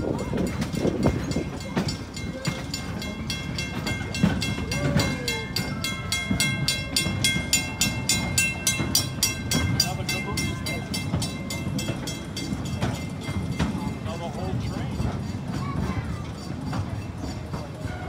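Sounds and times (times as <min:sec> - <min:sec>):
train rumbling: 0:00.0 - 0:18.0
wheels clacking over rail joints: 0:00.0 - 0:18.0.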